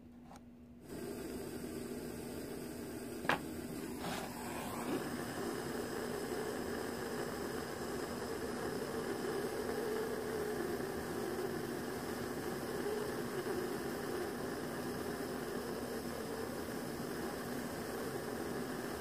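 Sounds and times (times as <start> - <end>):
torch flame hissing: 0.8 - 19.0.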